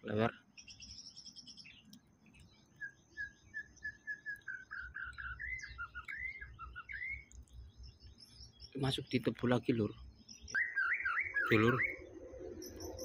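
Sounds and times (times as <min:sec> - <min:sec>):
high bird chirping: 0:00.5 - 0:13.0
bird whistling song: 0:00.6 - 0:08.9, 0:10.2 - 0:13.0.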